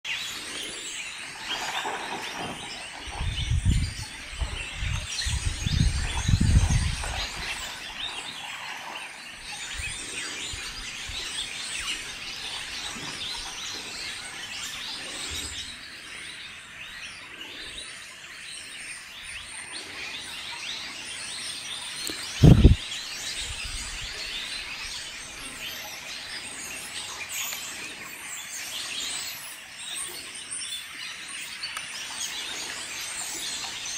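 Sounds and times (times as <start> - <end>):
birds chirping and calling: 0.1 - 33.9.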